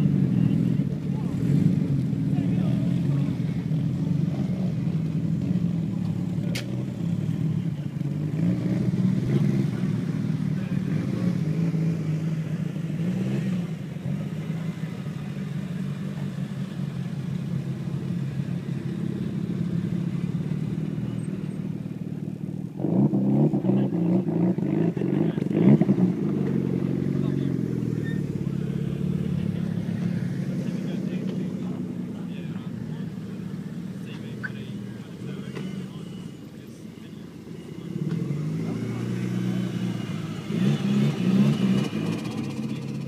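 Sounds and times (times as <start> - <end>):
car engines running at low revs: 0.0 - 43.0.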